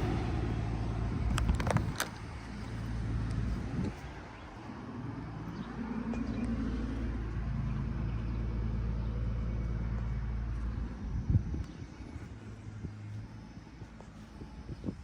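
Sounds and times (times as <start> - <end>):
heat pump compressor and fan hum: 0.0 - 15.0.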